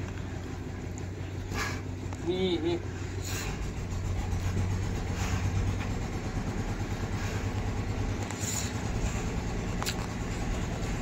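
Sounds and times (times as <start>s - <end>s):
low mechanical motor hum: 0.0s - 11.0s.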